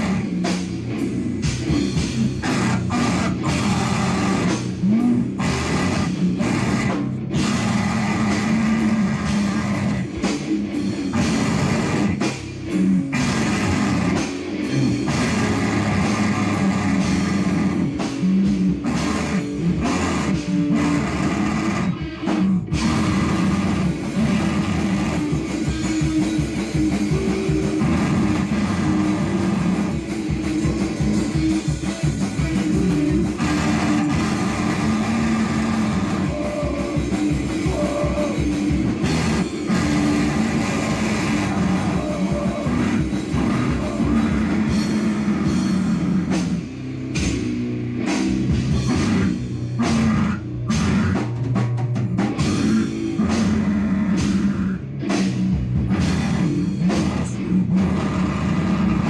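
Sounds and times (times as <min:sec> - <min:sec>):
distorted electric guitar: 0:00.0 - 0:59.0
drums: 0:00.0 - 0:59.0.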